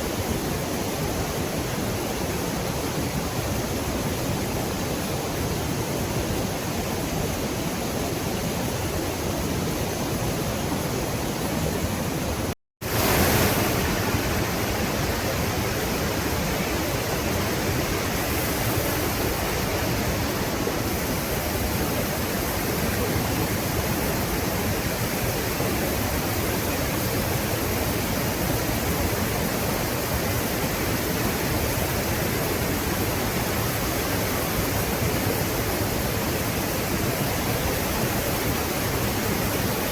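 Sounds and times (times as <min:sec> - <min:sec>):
waterfall and rushing river: 0:00.0 - 0:39.9.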